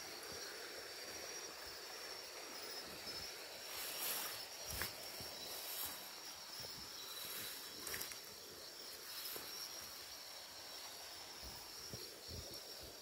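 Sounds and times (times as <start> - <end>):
faint hiss: 0.0 - 13.0
night insects trilling: 0.0 - 13.0.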